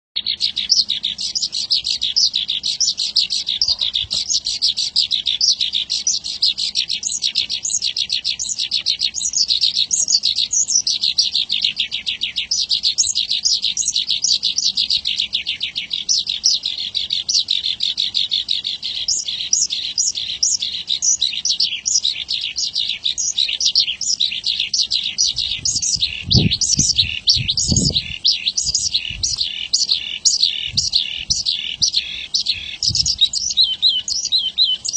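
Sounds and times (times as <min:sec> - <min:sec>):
lark singing chirps and trills: 0:00.2 - 0:34.9.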